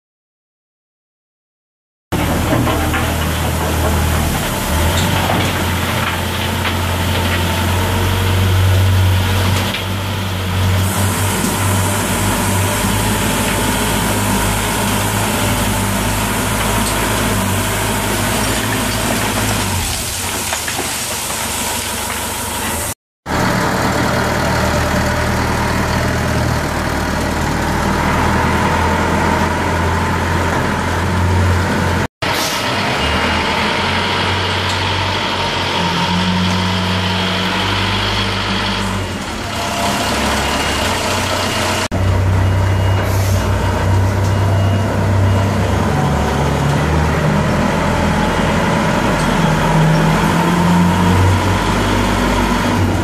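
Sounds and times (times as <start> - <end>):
diesel engine running: 2.1 - 53.0.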